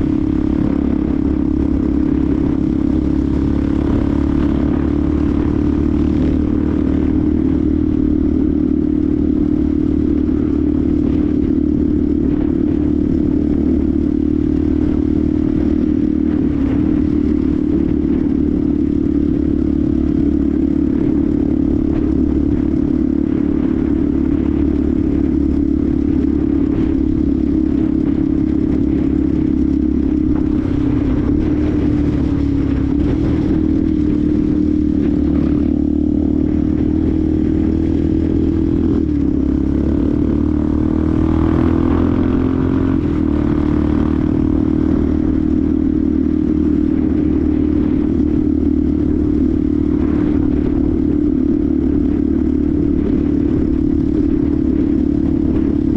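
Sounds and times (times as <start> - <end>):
motorcycle engine running steadily: 0.0 - 55.9.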